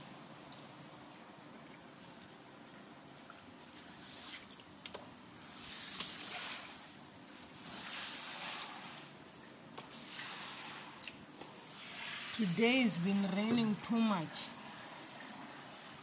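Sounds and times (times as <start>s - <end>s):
squeegee sloshing water: 0.8s - 16.0s.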